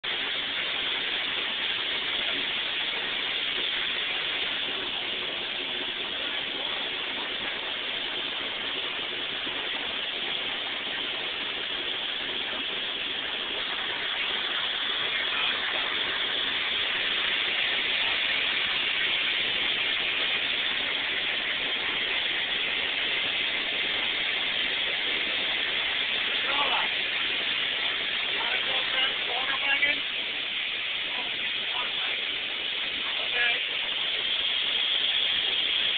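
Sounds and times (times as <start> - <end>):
steam crane hissing: 0.0 - 35.9.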